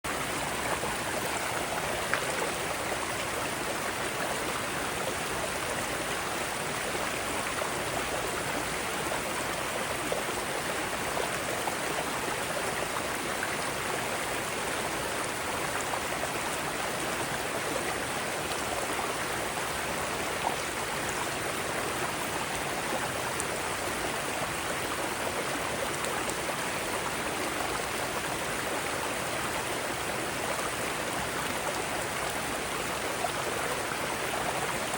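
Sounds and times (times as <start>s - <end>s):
stream flowing over rocks: 0.0s - 34.9s.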